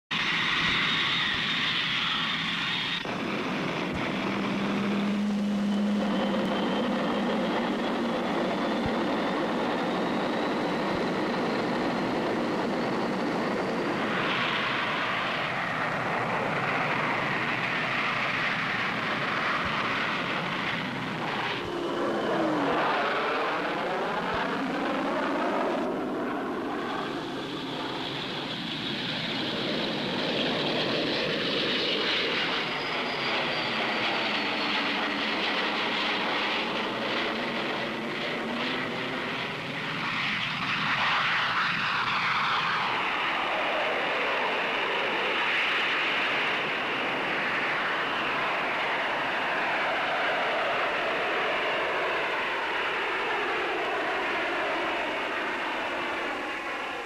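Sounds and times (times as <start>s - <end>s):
jet engine whine: 0.1s - 57.0s
jet passing by: 0.1s - 57.0s.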